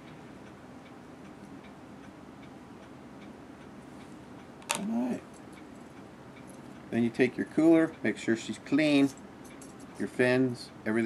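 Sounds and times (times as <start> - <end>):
faint steady ticking: 0.0 - 11.0.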